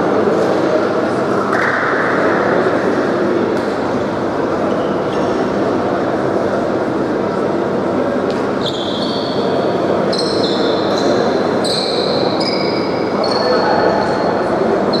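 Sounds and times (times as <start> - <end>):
indoor sports hall noise: 0.0 - 15.0.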